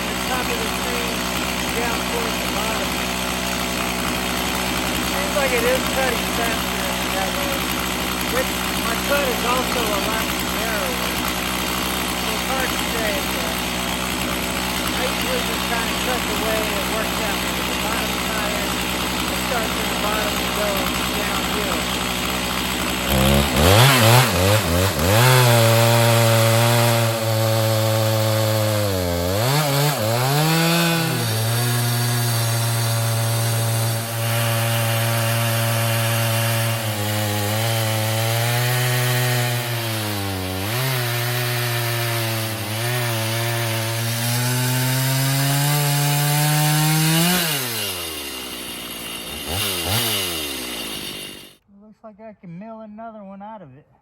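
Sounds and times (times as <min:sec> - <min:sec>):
chainsaw cutting through log: 0:00.0 - 0:51.6.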